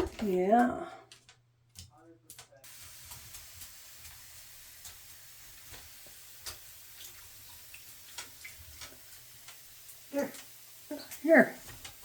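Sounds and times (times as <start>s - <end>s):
water dripping in bird bath: 0.0s - 12.0s.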